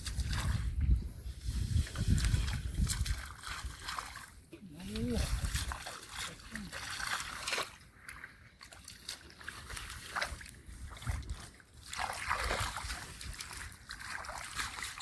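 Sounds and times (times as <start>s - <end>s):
splashing in muddy water: 0.0s - 15.0s.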